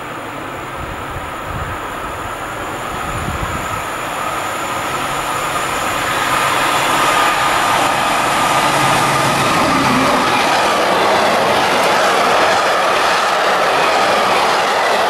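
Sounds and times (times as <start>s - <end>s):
freight train wheel and rail noise: 0.0s - 15.0s.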